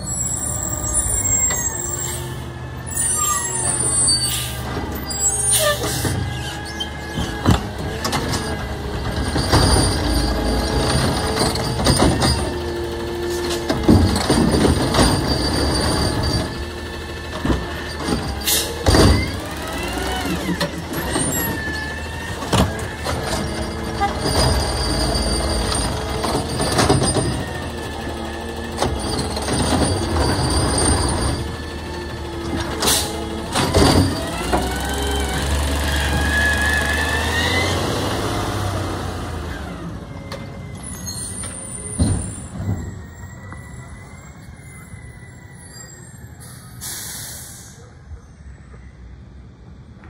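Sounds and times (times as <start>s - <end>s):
diesel engine running: 0.0s - 43.7s.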